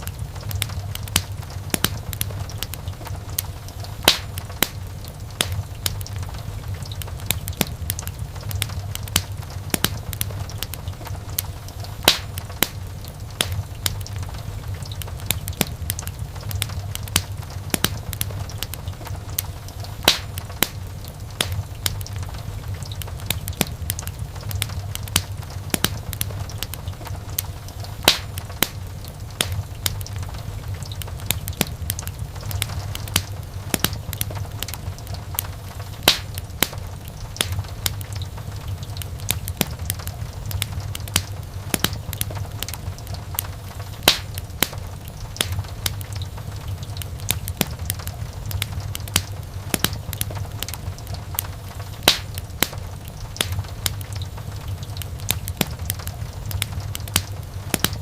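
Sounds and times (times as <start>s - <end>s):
wood fire crackling: 0.0s - 58.0s
wood fire popping: 0.0s - 58.0s.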